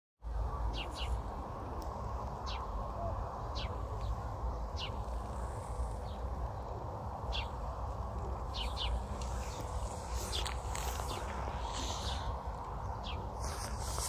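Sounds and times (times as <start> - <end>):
low outdoor background noise: 0.2 - 14.0
songbird chirping: 0.3 - 14.0.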